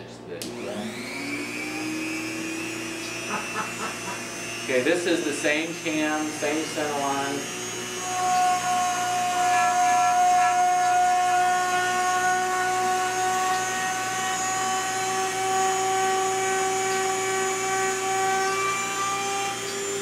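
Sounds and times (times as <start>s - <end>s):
rotary tool high whine: 0.4s - 20.0s.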